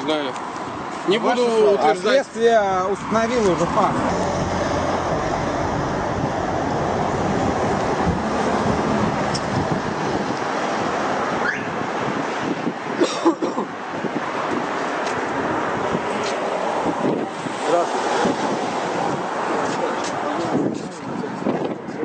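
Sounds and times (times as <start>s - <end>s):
road traffic: 0.0s - 22.0s
wind buffeting microphone: 2.6s - 13.1s, 13.7s - 22.0s.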